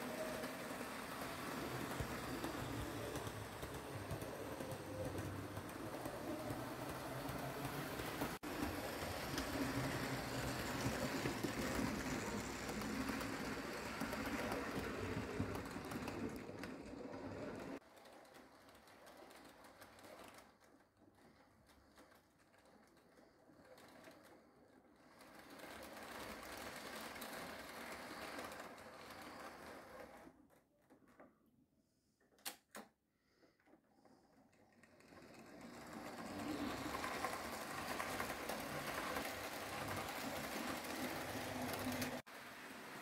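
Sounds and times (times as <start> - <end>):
model train motors whirring: 0.0 - 20.5, 21.2 - 30.4, 34.1 - 43.0.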